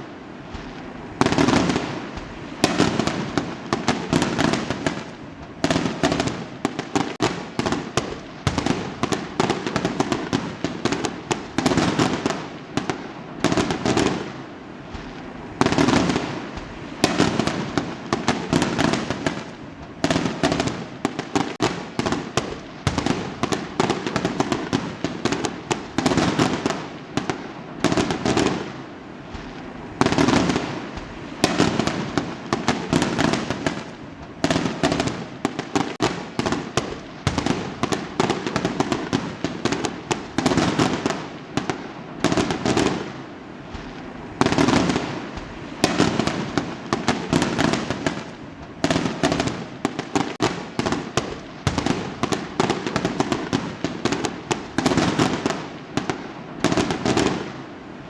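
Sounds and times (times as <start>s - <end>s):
fireworks bangs: 0.0s - 58.0s
fireworks crackling pops: 0.0s - 58.0s.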